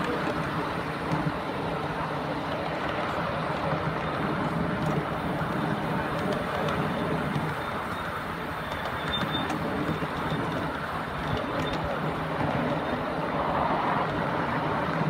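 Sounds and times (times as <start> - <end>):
miniature steam train running: 0.0 - 15.0.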